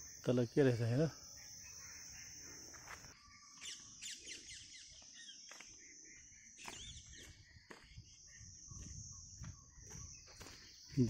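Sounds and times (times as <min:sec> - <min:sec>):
faint birdsong: 0:00.0 - 0:11.0
high insect drone: 0:00.0 - 0:11.0.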